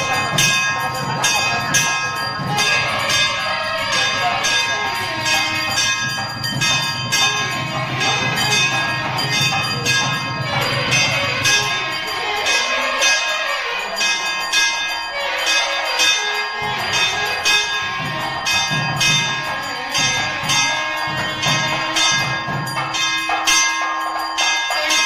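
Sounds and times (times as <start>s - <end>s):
music: 0.0s - 25.0s
temple bell ringing: 0.0s - 25.0s.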